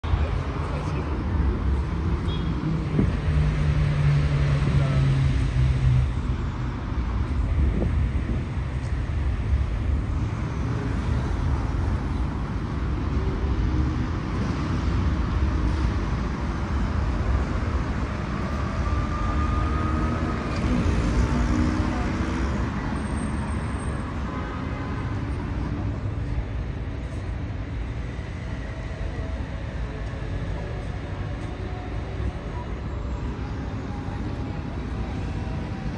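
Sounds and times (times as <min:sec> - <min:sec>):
road traffic rumble: 0:00.0 - 0:35.9.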